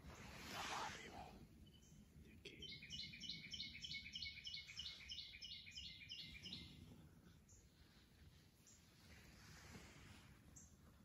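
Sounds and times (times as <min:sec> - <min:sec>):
songbird chirping: 0:00.0 - 0:09.8, 0:10.4 - 0:11.0.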